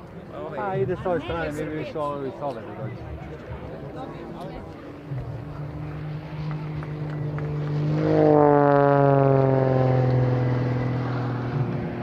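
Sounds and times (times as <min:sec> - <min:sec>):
propeller plane passing close: 0:00.0 - 0:12.0.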